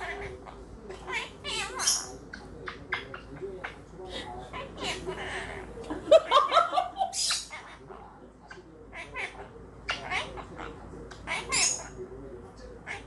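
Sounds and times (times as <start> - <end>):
parrot chattering: 0.0 - 12.0.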